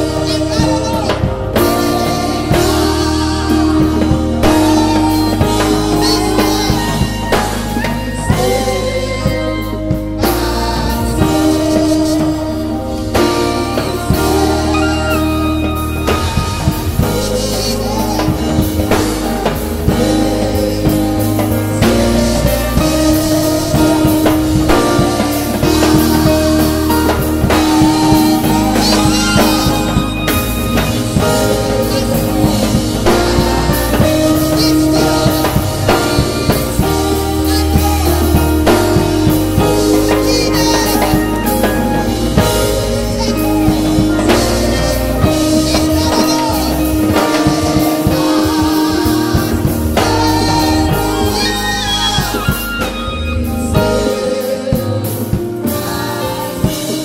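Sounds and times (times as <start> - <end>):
bass line: 0.0 - 57.0
drum kit beat: 0.0 - 57.0
electric keyboard chords: 0.0 - 57.0.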